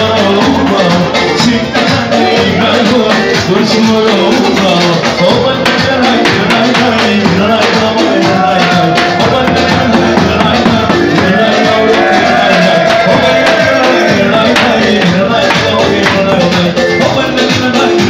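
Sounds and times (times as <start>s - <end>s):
bass drum beating: 0.0s - 18.0s
live dance music: 0.0s - 18.0s.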